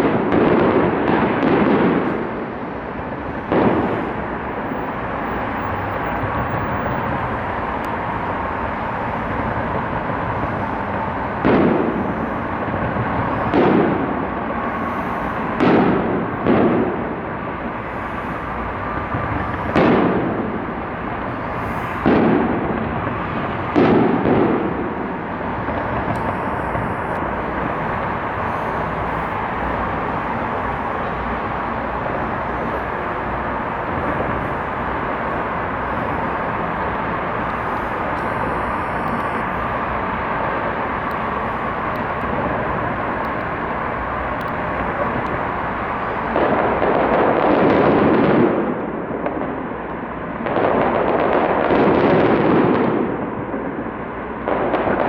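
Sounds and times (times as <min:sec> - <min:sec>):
fireworks booming: 0:00.0 - 0:55.0
steady background noise: 0:00.0 - 0:55.0.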